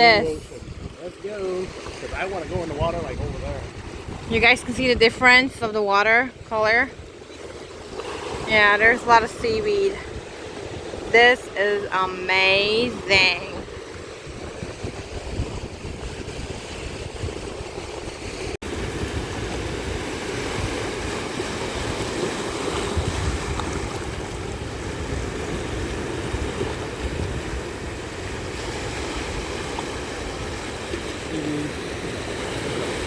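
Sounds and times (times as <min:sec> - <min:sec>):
ocean waves washing on beach: 0:00.0 - 0:33.0
wind buffeting microphone: 0:00.0 - 0:33.0.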